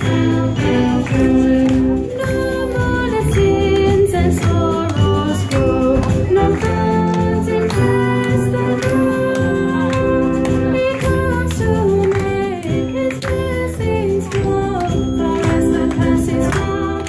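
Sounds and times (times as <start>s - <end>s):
song with singing over beat: 0.0s - 17.0s.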